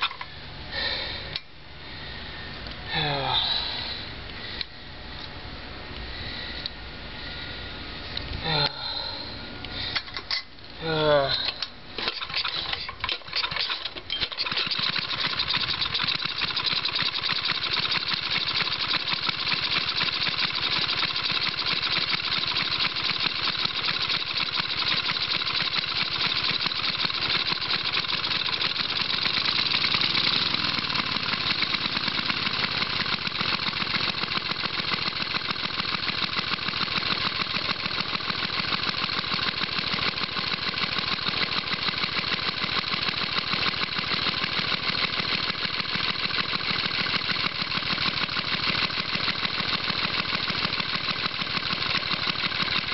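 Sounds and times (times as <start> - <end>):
small engine starting and running: 0.0 - 52.9.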